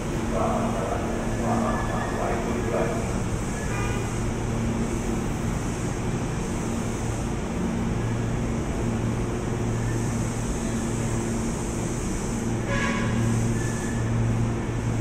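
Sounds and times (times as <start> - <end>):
electric train hum: 0.0 - 15.0.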